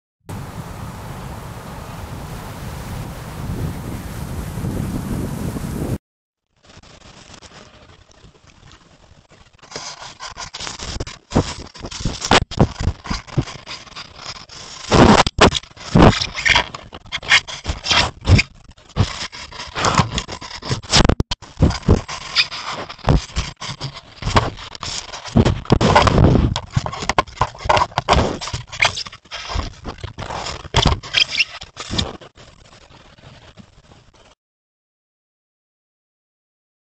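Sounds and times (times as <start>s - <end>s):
fur scraping on microphone: 0.3s - 6.0s, 6.6s - 34.4s.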